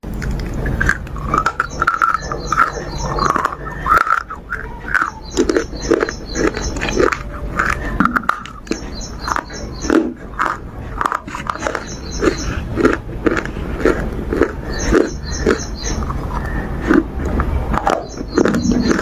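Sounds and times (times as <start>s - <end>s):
low animal noises: 0.4s - 19.0s
songbird chirping: 0.4s - 19.0s.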